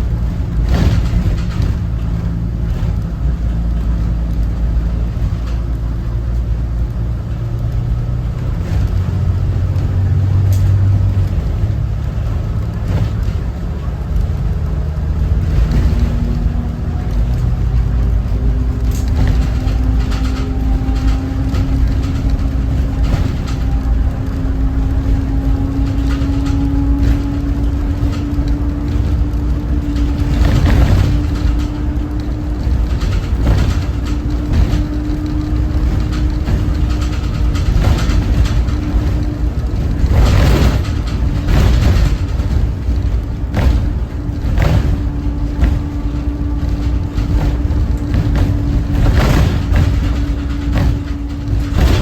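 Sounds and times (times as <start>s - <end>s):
bus diesel engine rumble: 0.0s - 52.0s
rattle or rushing noise: 0.0s - 52.0s.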